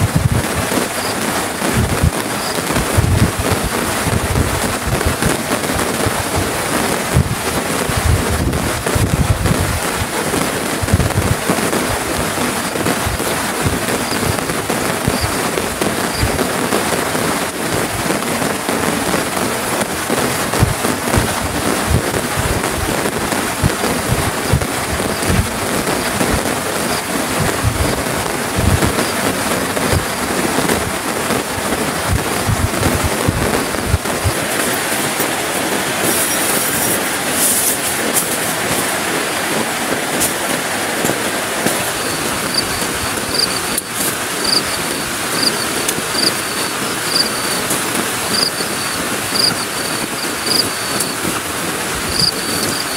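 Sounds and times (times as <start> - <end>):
heavy rain on a tarp: 0.0 - 52.9.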